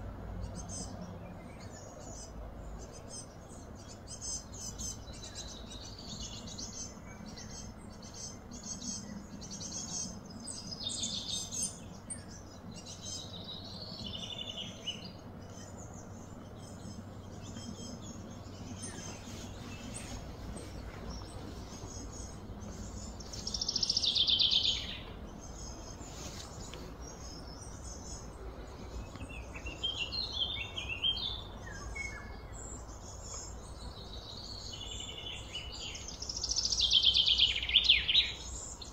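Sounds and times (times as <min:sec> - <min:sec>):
low outdoor background: 0:00.0 - 0:38.9
birds chirping and calling: 0:00.2 - 0:38.9.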